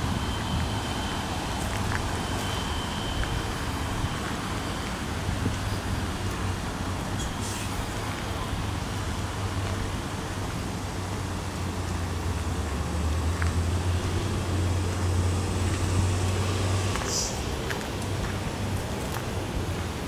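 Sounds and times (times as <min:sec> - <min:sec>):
road traffic engine hum: 0:00.0 - 0:20.0.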